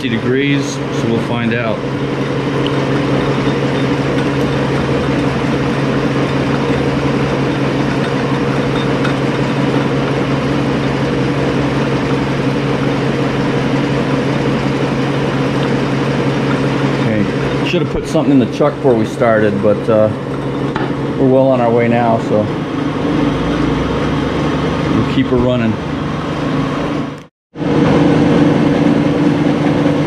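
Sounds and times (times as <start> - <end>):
lathe motor humming: 0.0 - 30.0.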